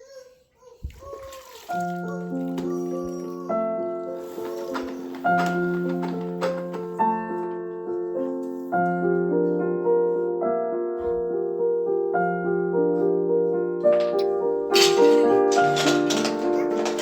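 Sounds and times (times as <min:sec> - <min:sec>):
gentle piano melody: 0:01.6 - 0:17.0.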